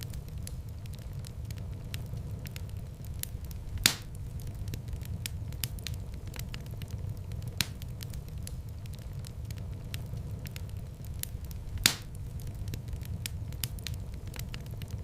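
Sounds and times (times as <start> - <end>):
fire crackling in fireplace: 0.0 - 15.0
loud fire pops: 0.0 - 15.0.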